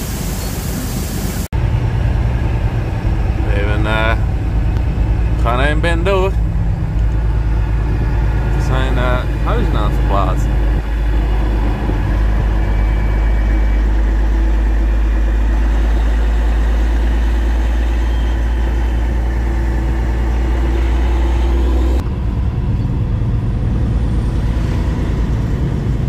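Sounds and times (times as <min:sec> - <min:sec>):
truck diesel engine idling: 0:00.0 - 0:25.8
truck driving on highway: 0:00.0 - 0:26.0.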